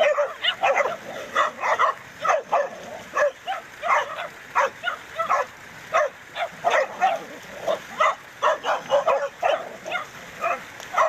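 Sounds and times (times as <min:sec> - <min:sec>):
dog barking and yelping: 0:00.0 - 0:11.0.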